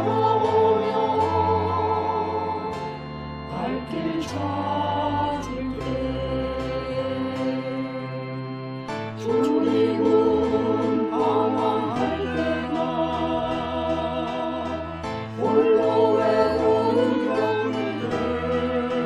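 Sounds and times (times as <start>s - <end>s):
hymn sung with vibrato: 0.0s - 8.5s, 9.2s - 19.0s
sustained instrumental accompaniment: 0.0s - 19.0s.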